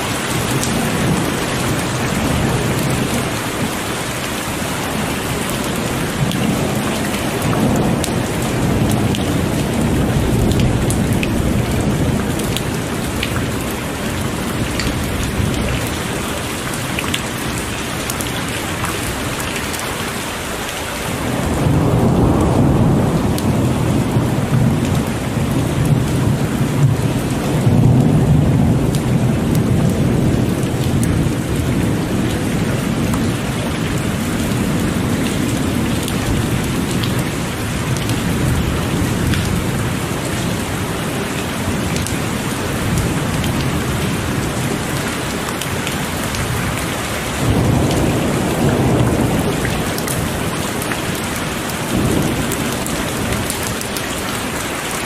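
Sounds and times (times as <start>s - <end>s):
rolling thunder: 0.0s - 19.4s, 21.1s - 53.9s
heavy rain falling: 0.0s - 55.0s.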